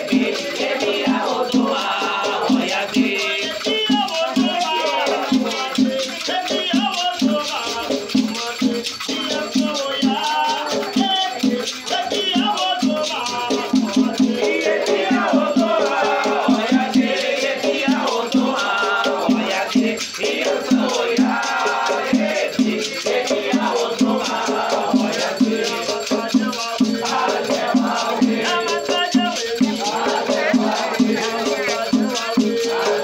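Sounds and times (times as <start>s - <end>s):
shaker rattle: 0.0s - 33.0s
steady drum beat: 0.0s - 33.0s
voices singing: 0.0s - 33.0s.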